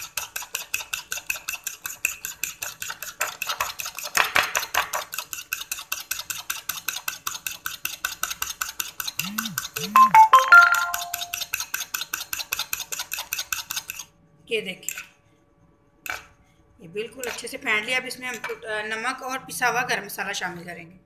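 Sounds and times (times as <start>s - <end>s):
eggs being beaten in a bowl: 0.0s - 14.2s, 16.0s - 19.0s.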